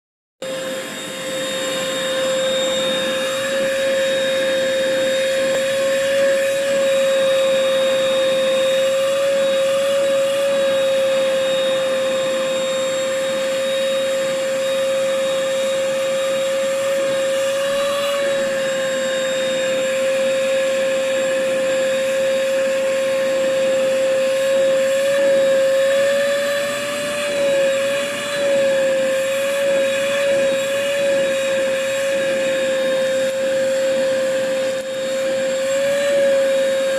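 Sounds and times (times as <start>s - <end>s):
vacuum cleaner running: 0.4s - 36.9s.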